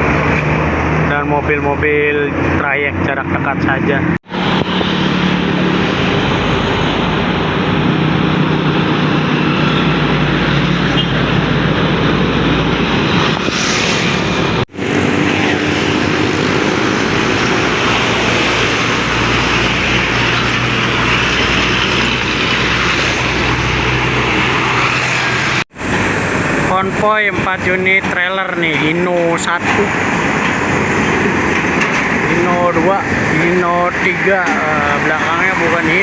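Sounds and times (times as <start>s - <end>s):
truck diesel engines: 0.0s - 36.0s.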